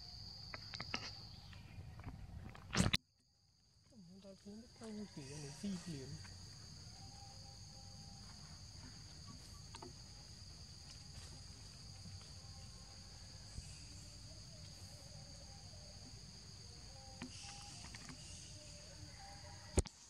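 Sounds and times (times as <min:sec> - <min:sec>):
forest insects droning: 0:00.0 - 0:20.0.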